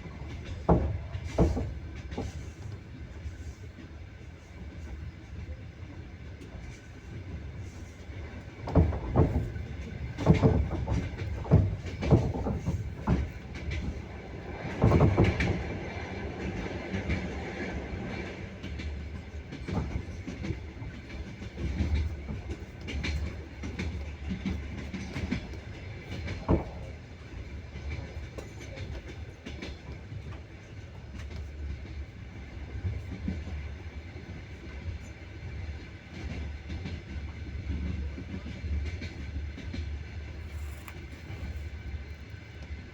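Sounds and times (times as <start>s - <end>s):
train wheels clacking: 0.0s - 5.5s, 6.4s - 42.9s
train running rumble: 0.0s - 42.9s.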